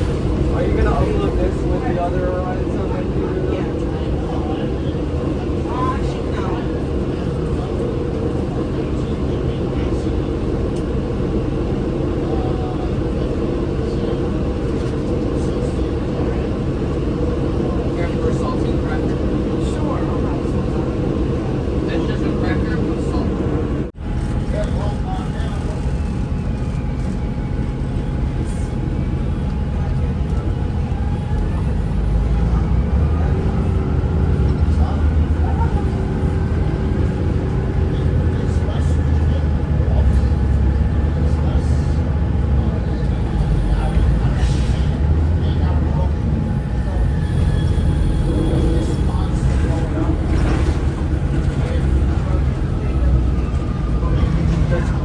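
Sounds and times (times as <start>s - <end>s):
bus drivetrain rumble: 0.0s - 55.0s
road noise: 0.0s - 55.0s.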